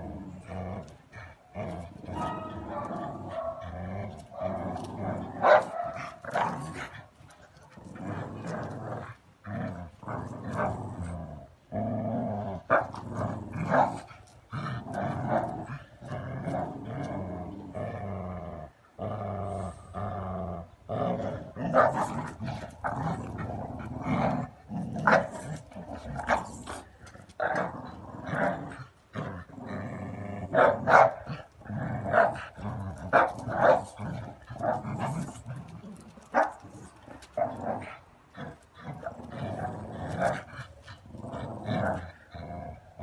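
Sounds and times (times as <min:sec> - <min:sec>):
dogs growling: 0:00.0 - 0:43.0.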